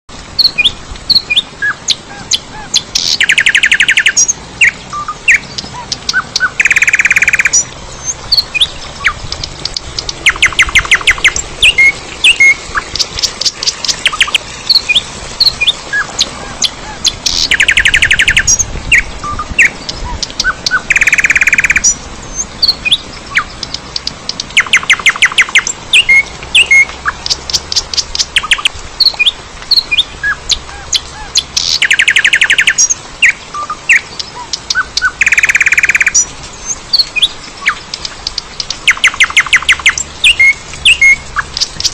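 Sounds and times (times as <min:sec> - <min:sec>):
birds chirping: 0:00.3 - 0:41.9
bird trills: 0:00.4 - 0:22.0, 0:22.6 - 0:36.3, 0:36.9 - 0:41.9.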